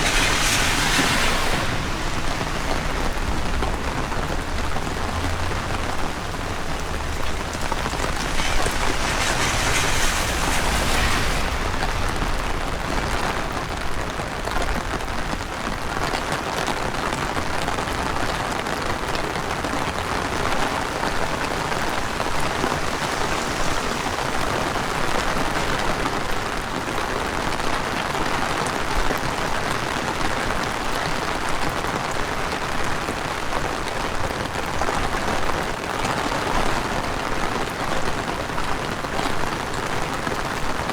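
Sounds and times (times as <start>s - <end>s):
heavy rain on street: 0.0s - 40.9s
wind rumbling on microphone: 0.0s - 40.9s.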